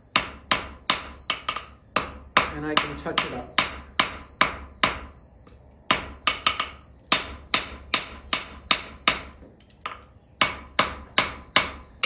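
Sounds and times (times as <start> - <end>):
hammer striking steel on anvil: 0.1 - 12.0.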